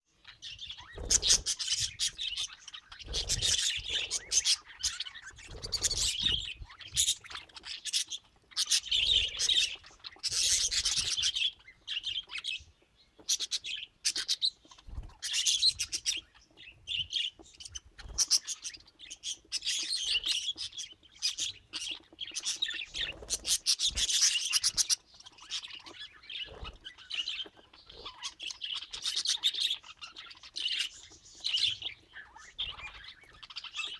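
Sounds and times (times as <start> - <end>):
budgerigars chirping and warbling: 0.1 - 33.9.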